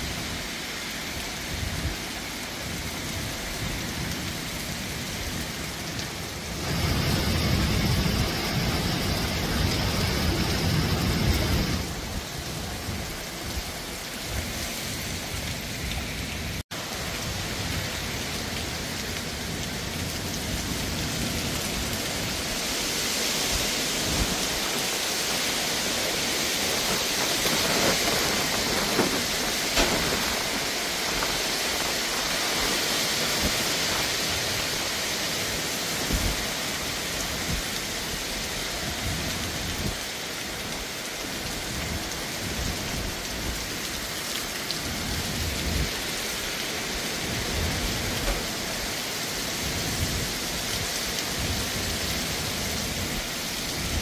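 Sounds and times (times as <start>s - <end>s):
gusting wind: 0.0s - 54.0s
heavy rain: 0.0s - 54.0s.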